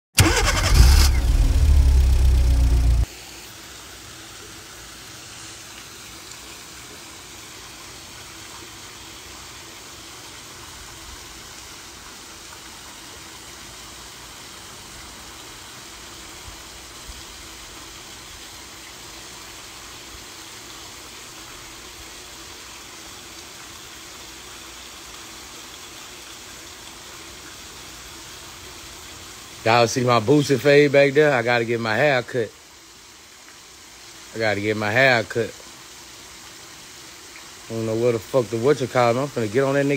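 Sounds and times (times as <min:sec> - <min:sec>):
steady outdoor hiss: 0:00.2 - 0:39.9.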